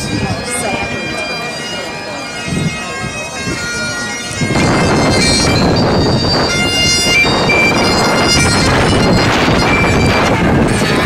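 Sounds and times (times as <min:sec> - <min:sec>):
bagpipes playing a tune: 0:00.0 - 0:11.0
loud steady background noise: 0:00.0 - 0:11.0.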